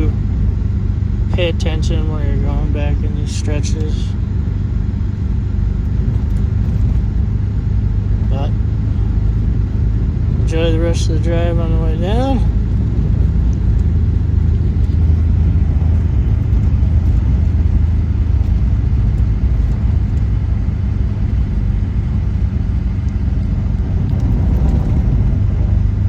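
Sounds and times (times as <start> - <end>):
vehicle engine and tyres rumbling: 0.0 - 26.0.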